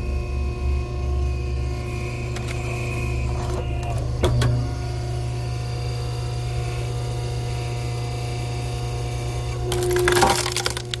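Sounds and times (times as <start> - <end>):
log splitter humming: 0.0 - 11.0.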